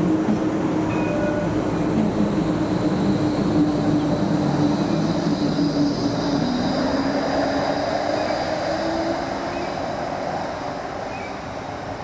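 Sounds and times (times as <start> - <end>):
tram motor hum: 0.0 - 12.0
tram wheels rumbling on rail: 0.0 - 12.0.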